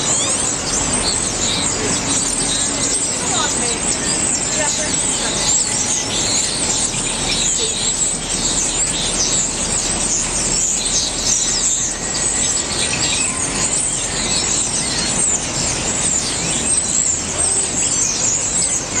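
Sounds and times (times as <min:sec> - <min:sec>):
flock of birds chirping: 0:00.0 - 0:19.0.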